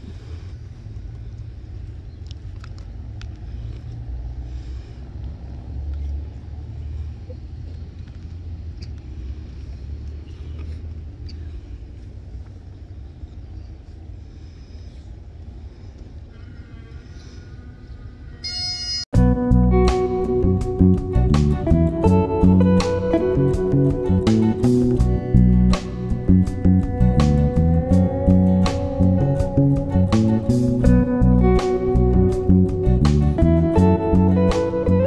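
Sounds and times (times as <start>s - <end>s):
low outdoor rumble: 0.0s - 18.4s, 19.2s - 35.0s.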